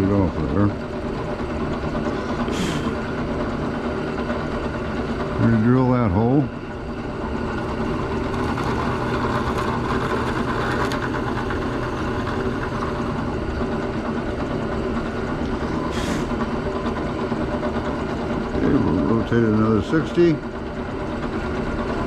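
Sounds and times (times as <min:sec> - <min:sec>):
drill press motor running: 0:00.0 - 0:22.0.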